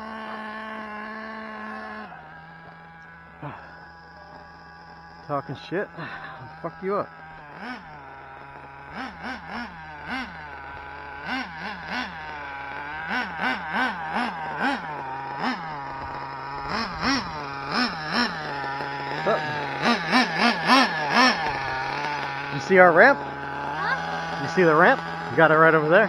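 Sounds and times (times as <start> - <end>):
model engine revving: 0.0 - 26.0.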